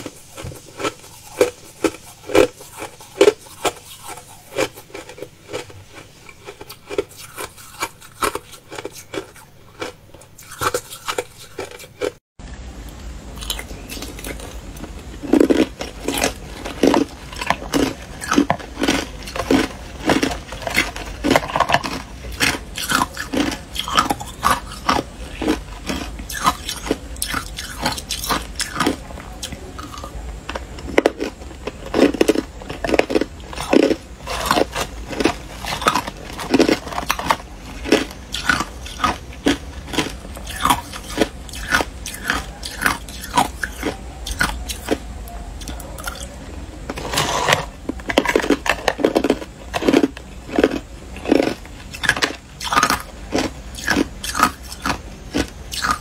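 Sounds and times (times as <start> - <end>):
ice being chewed: 0.0 - 12.2, 13.4 - 56.0
low steady hum: 0.0 - 56.0.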